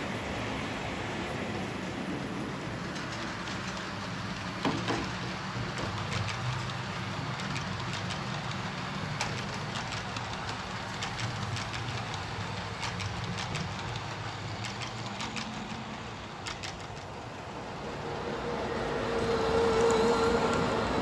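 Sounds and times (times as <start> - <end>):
wheels clicking over rail joints: 0.0 - 17.9
model train rolling on track: 0.0 - 21.0.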